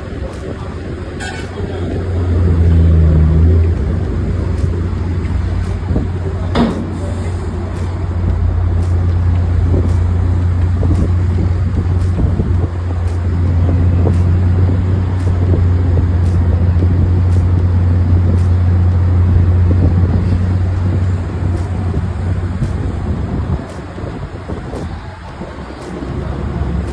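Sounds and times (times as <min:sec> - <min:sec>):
heavy machinery droning: 0:00.0 - 0:26.9.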